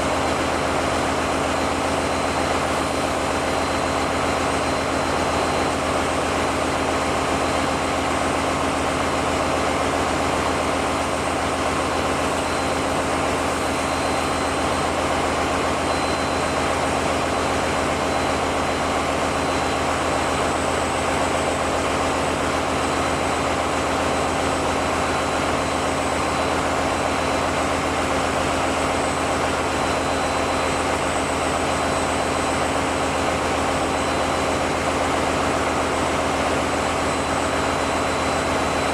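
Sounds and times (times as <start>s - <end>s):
diesel generator engines roaring: 0.0s - 38.9s.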